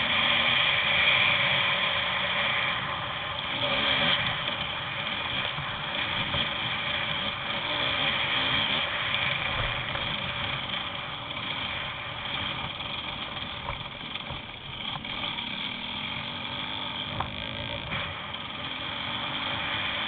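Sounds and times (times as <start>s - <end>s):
vehicle riding on dirt trail: 0.0s - 20.0s.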